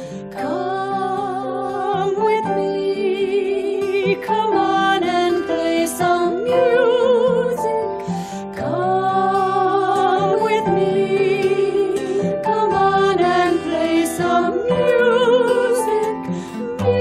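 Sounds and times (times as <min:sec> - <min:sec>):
instrumental backing music: 0:00.0 - 0:17.0.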